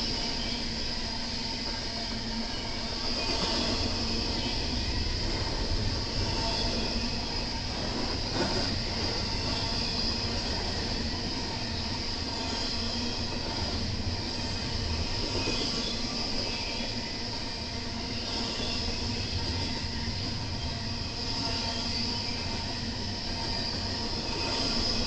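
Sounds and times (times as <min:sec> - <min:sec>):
freight train rolling past: 0:00.0 - 0:25.0.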